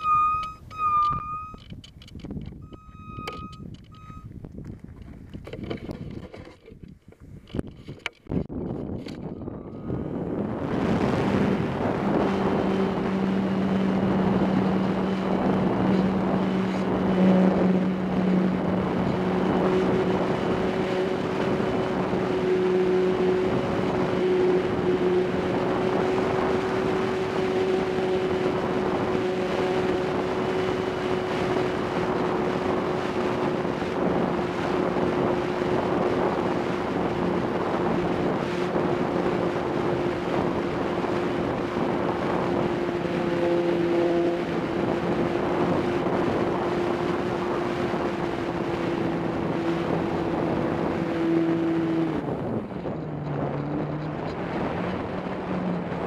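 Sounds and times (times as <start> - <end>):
wind rushing over microphone: 0.0 - 56.0
model plane motor droning: 2.6 - 4.4, 9.2 - 55.9.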